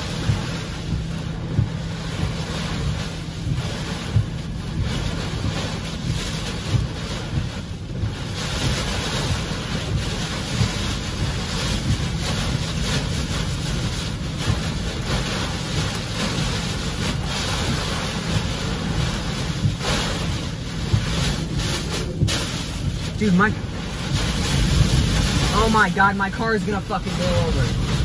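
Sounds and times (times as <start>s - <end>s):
wind and rain battering a car: 0.0s - 28.0s.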